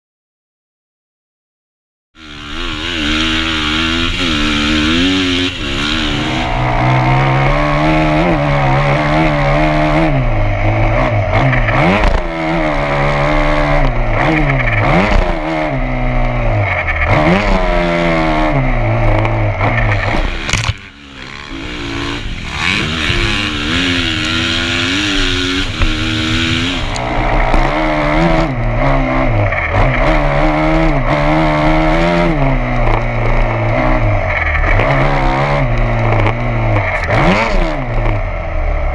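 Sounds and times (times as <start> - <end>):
dirt bike engine revving: 2.2 - 38.9.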